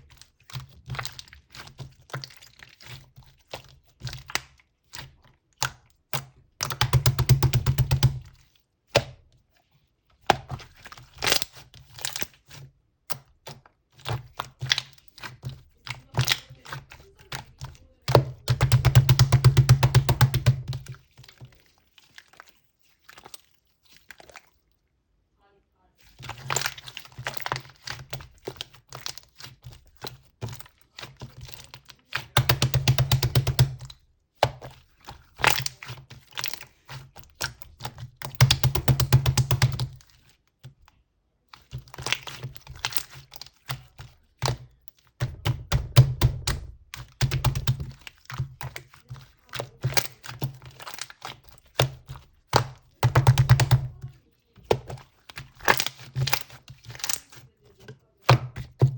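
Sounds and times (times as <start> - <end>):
slime clicking and crackling: 0.0 - 9.2, 10.2 - 24.6, 26.1 - 40.9, 41.5 - 58.9.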